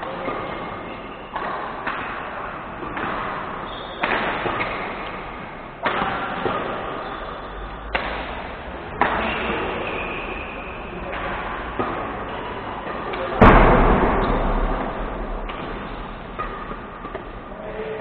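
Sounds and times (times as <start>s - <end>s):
rackets hitting shuttlecock: 0.2s - 7.0s, 7.9s - 17.5s.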